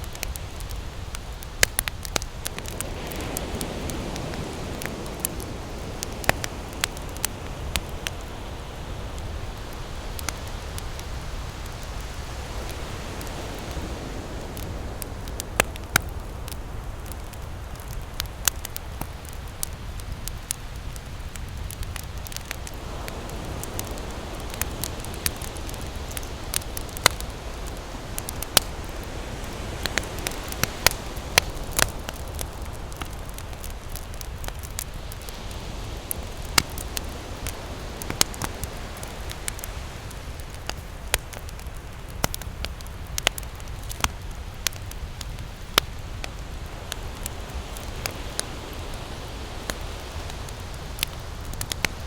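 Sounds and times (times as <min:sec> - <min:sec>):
campfire crackling and popping: 0:00.0 - 0:52.0
ocean waves: 0:00.0 - 0:52.0.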